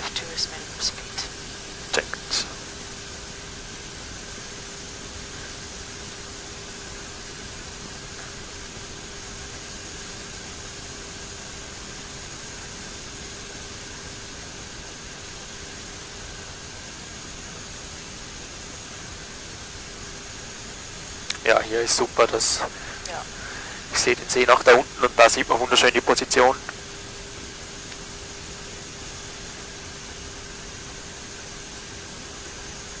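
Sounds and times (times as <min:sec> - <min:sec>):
faint high whine: 0:00.0 - 0:33.0
low steady hum: 0:00.0 - 0:33.0.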